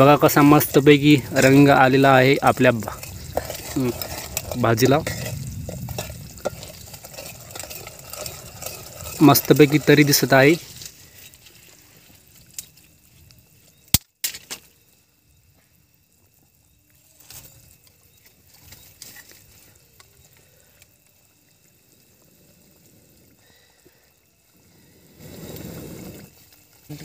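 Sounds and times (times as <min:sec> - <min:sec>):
faint bubbling of simmering pot: 0:00.0 - 0:14.0, 0:14.8 - 0:27.0.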